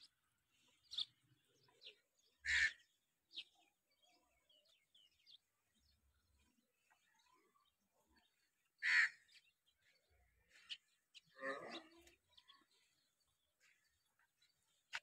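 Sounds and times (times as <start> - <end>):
bird chirps and calls: 0.0 - 15.0.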